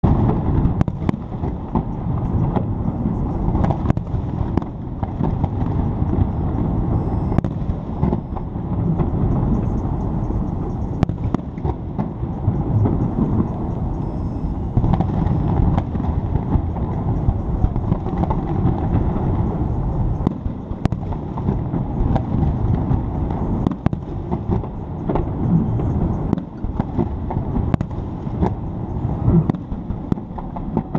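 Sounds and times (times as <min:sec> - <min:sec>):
fireworks bangs: 0:00.0 - 0:30.9
low rumble: 0:00.0 - 0:30.9.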